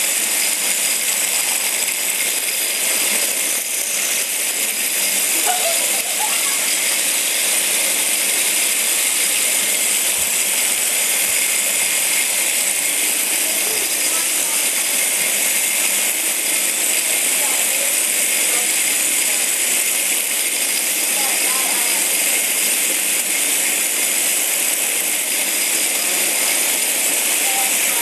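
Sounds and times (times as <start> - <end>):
toy robots buzzing and rattling: 0.0 - 28.0.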